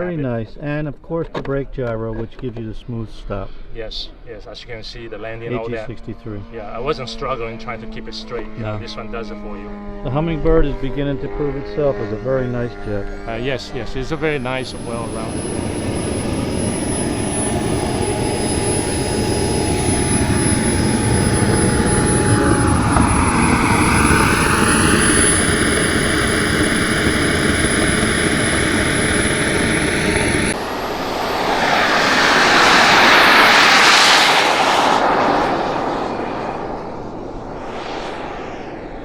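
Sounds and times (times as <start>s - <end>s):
small jet turbine whine: 3.2s - 39.0s
jet fly-past: 4.2s - 39.0s.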